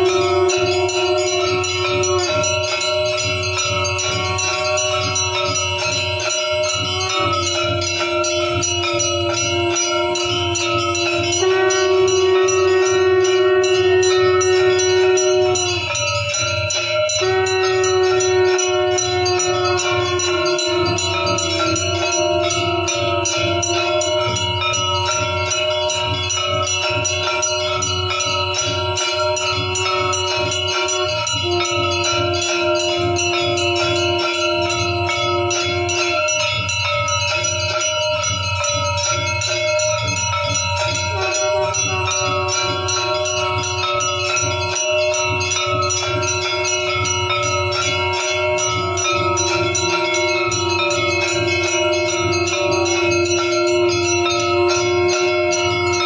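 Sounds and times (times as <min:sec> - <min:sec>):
long held tone: 0:00.0 - 0:56.0
temple bells ringing: 0:00.0 - 0:56.0.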